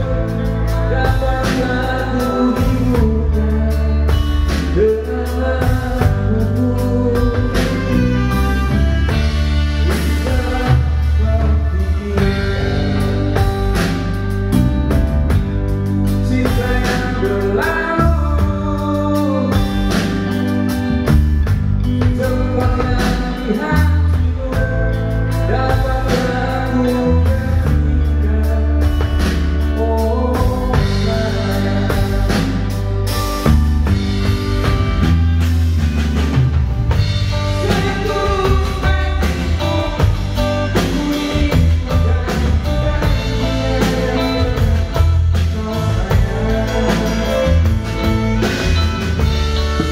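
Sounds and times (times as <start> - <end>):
man singing into microphone: 0.0 - 13.8, 16.1 - 20.4, 21.9 - 33.0, 37.3 - 48.9
live band playing pop song: 0.0 - 49.9.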